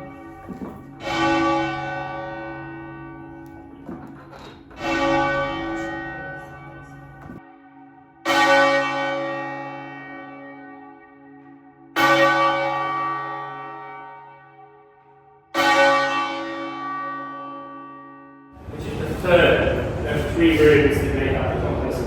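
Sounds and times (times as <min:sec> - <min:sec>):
church tower bell ringing: 0:00.0 - 0:22.0.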